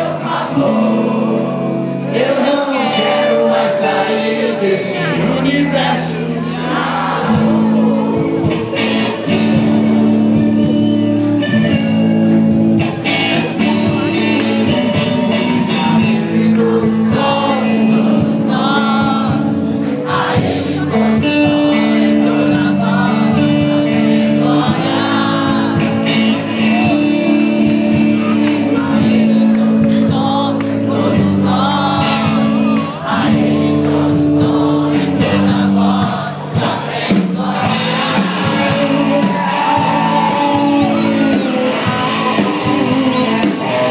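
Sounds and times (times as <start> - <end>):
live rock band: 0.0 - 43.9
person singing: 0.0 - 43.9.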